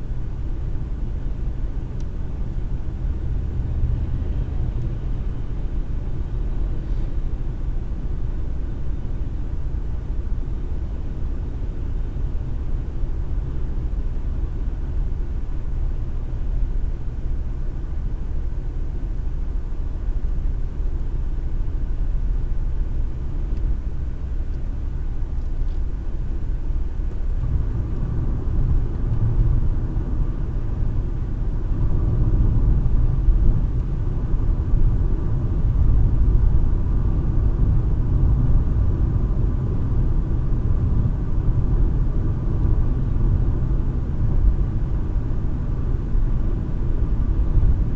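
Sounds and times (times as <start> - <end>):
road and engine rumble in car: 0.0 - 47.9.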